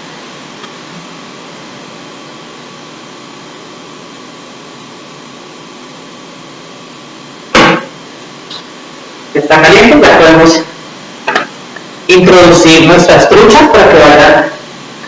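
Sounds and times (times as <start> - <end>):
faint high hum: 0.0 - 15.0
fan-like hiss: 0.0 - 15.0.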